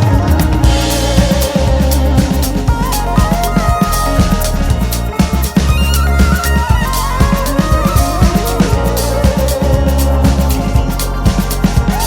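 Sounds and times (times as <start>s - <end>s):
bass: 0.0s - 12.0s
drum beat: 0.0s - 12.0s
melody line: 0.0s - 12.0s.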